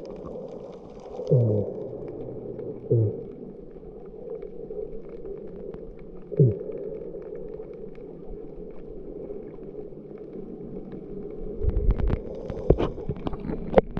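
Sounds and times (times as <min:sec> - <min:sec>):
muffled underwater rush: 0:00.0 - 0:13.9.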